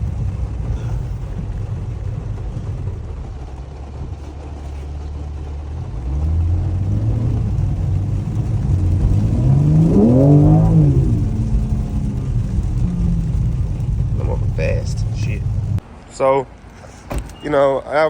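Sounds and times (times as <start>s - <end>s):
car engine accelerating: 0.0s - 15.9s.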